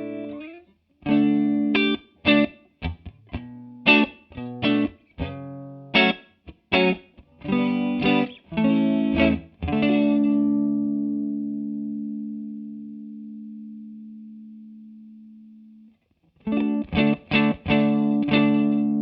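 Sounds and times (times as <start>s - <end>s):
electric guitar chords with chorus: 0.0s - 19.0s.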